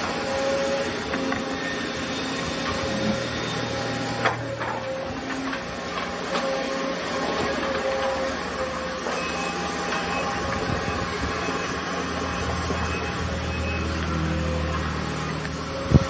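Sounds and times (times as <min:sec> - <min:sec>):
distant excavator engine: 0:00.0 - 0:16.0.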